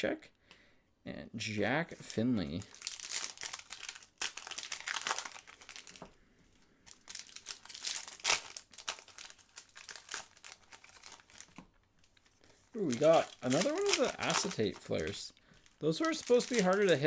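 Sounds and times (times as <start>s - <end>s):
card pack wrapper crinkling: 2.1s - 6.1s, 6.9s - 17.0s.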